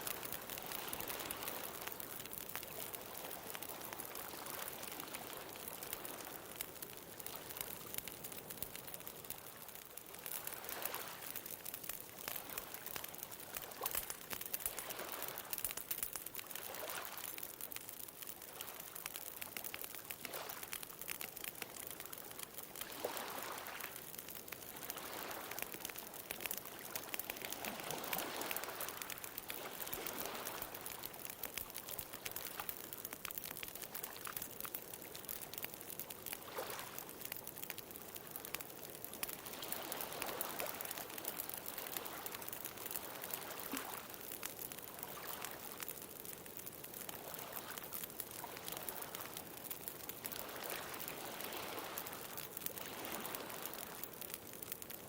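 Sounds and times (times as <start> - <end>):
small ocean waves washing in: 0.0 - 6.6, 7.2 - 17.7, 22.8 - 34.7, 38.4 - 49.4, 50.2 - 54.3
bonfire crackling and popping: 0.0 - 55.0.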